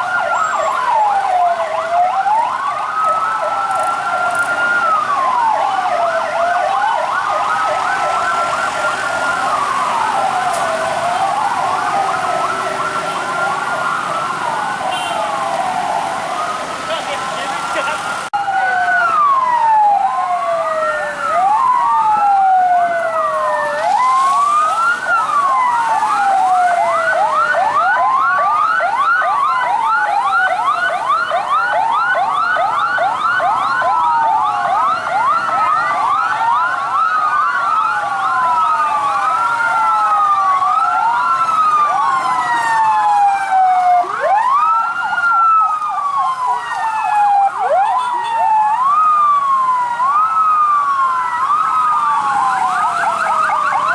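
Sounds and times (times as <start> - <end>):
siren wails: 0.0 - 53.9
siren yelps: 0.0 - 53.9.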